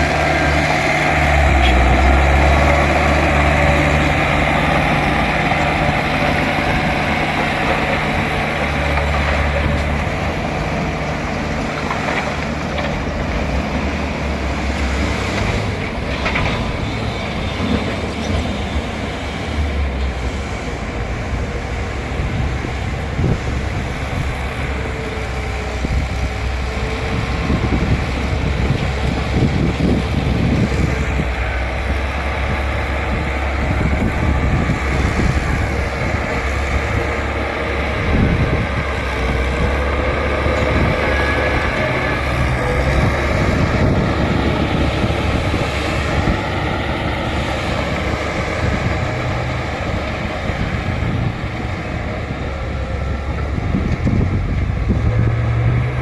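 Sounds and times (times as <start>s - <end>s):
bulldozer diesel engine running: 0.0s - 56.0s
steel tracks clanking and rattling: 0.0s - 56.0s.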